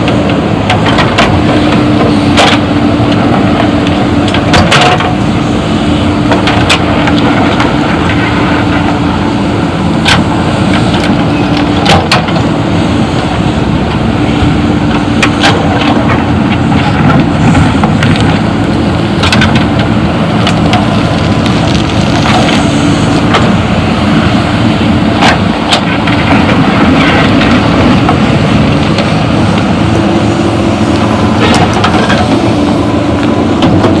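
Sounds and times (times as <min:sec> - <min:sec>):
heavy diesel engine droning: 0:00.0 - 0:34.0.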